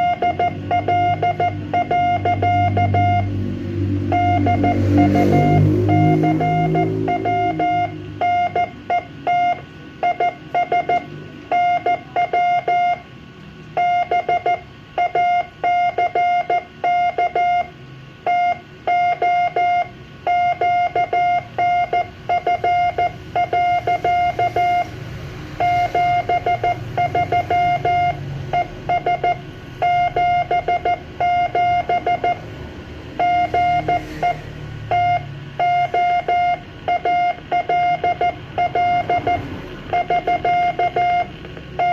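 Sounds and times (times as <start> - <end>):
morse code beeping tone: 0.0 - 13.1, 13.8 - 41.9.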